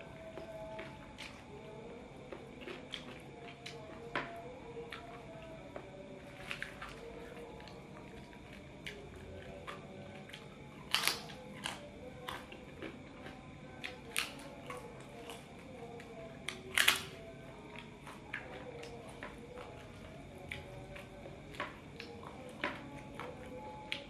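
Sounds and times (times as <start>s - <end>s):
crisp eating crackles: 0.0s - 24.0s.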